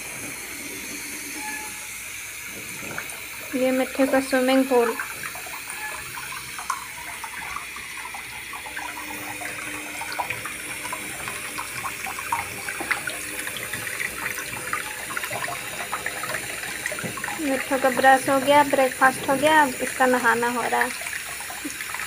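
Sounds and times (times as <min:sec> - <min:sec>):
tap water running: 0:00.0 - 0:22.0
water splashing: 0:02.4 - 0:22.0.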